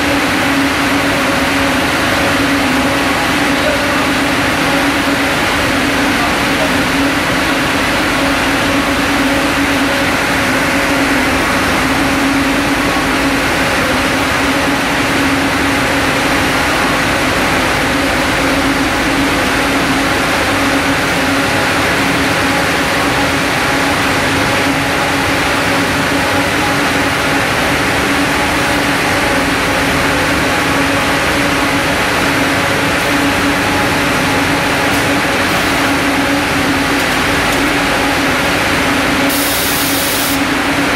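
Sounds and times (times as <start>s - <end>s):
spinning machines droning: 0.0s - 40.9s.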